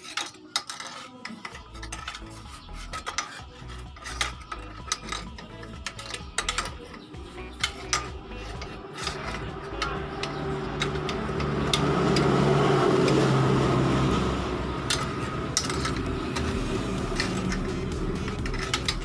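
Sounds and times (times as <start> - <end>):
tool scraping inside exhaust pipe: 0.0 - 19.0.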